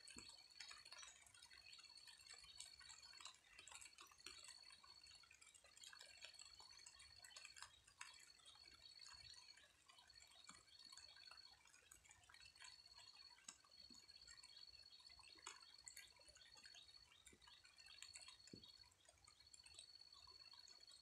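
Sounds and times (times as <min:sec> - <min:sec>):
light rain dripping: 0:00.0 - 0:21.0.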